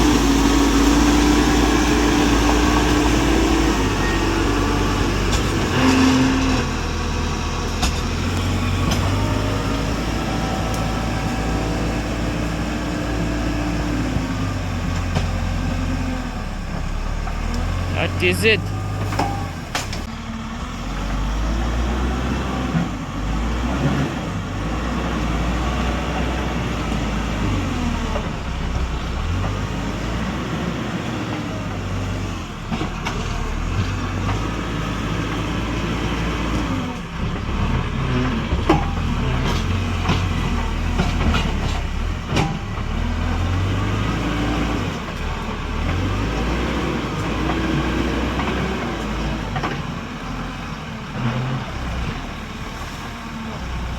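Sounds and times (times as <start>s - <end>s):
diesel tractor engine under load: 0.0s - 53.9s.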